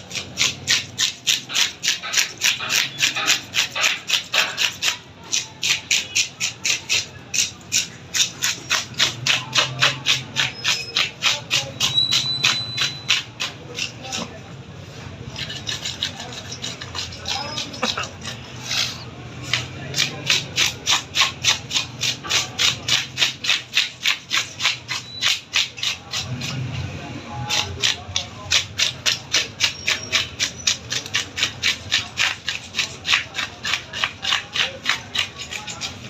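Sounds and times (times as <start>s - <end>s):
knife scraping fish scales: 0.0s - 36.0s.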